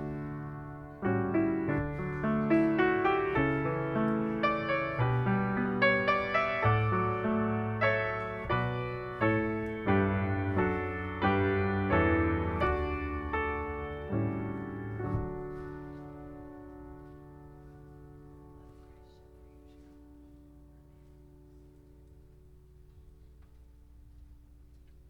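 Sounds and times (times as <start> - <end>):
piano chords: 0.0 - 24.1.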